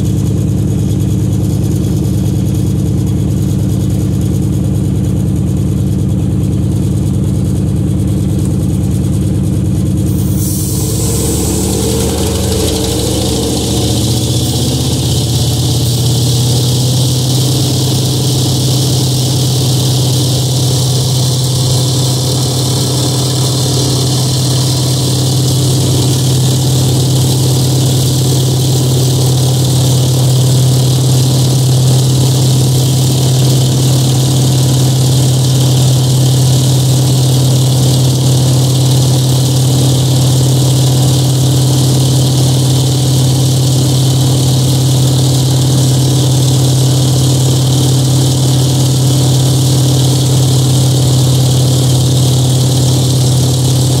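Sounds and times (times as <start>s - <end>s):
radial aircraft engine droning: 10.0s - 54.0s.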